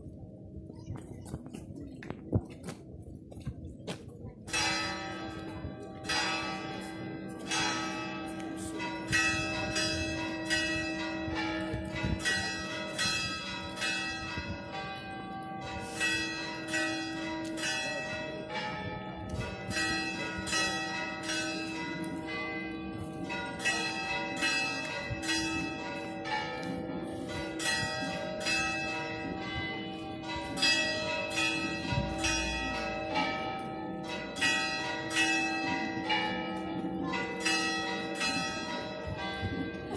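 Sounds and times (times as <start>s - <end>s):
church bells ringing: 4.4s - 39.9s.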